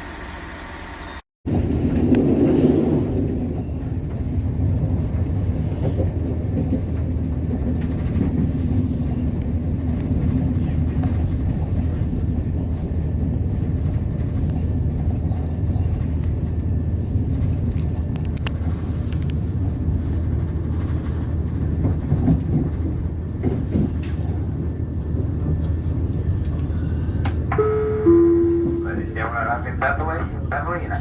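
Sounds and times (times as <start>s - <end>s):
train wheels rumbling: 1.5s - 31.0s.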